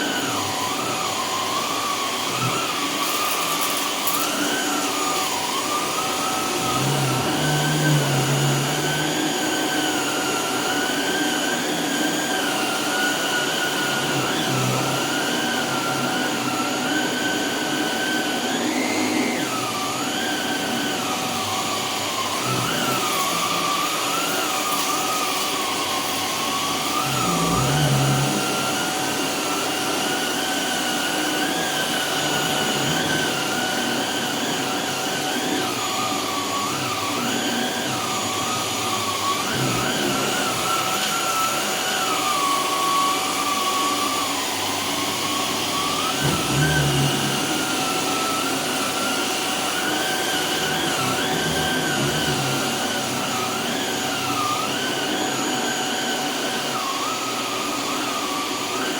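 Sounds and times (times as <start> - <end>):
vacuum cleaner running: 0.0 - 58.9.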